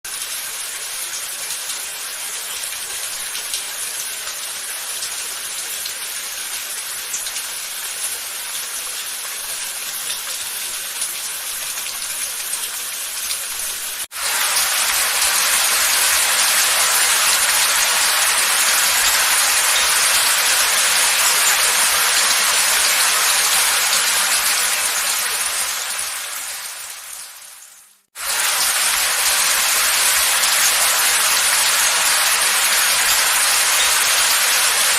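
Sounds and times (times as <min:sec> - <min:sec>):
heavy rain downpour: 0:00.1 - 0:34.9
steady rain with drops: 0:00.1 - 0:34.9.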